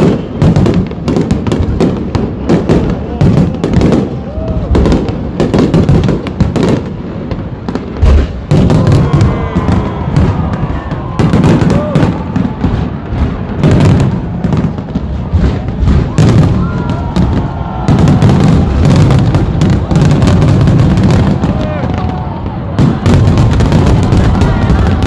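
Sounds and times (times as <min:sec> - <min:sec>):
fireworks bangs and crackles: 0:00.0 - 0:25.0
whistling fireworks: 0:00.0 - 0:25.0.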